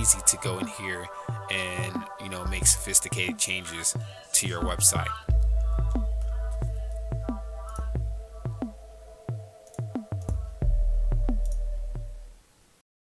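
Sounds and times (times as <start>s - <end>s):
electronic music: 0.0s - 12.4s.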